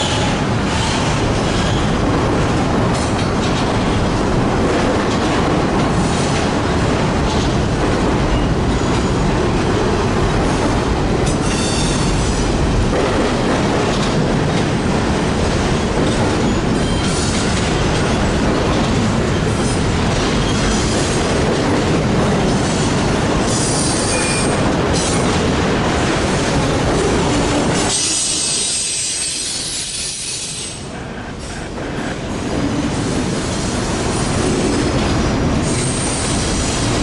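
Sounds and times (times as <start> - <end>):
freight train rumbling: 0.0 - 37.0.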